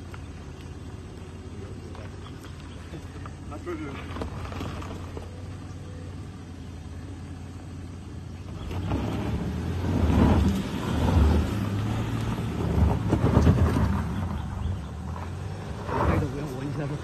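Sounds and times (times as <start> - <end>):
engine revving uphill: 0.0 - 17.0
tyres churning loose dirt: 0.0 - 17.0.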